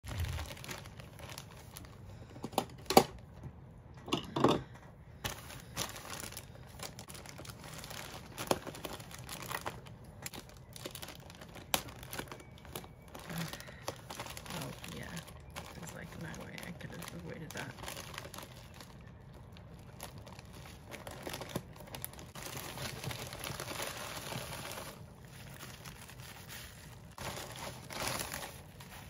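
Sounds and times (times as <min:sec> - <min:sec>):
packaging crinkling and tearing: 0:00.0 - 0:03.4, 0:05.2 - 0:29.0.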